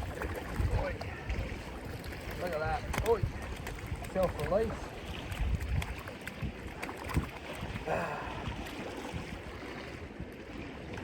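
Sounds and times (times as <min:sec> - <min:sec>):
sea water washing on rocks: 0:00.0 - 0:11.0
wind buffeting microphone: 0:00.0 - 0:11.0.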